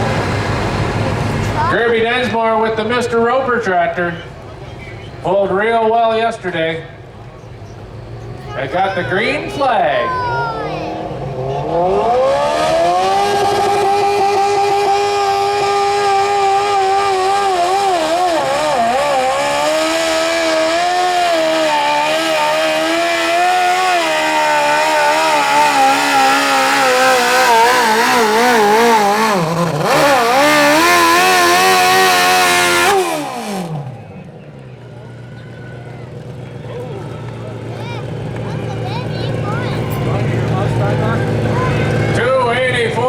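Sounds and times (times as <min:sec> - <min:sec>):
lawn tractor engine revving: 0:00.0 - 0:03.2, 0:08.4 - 0:35.2, 0:36.0 - 0:43.0.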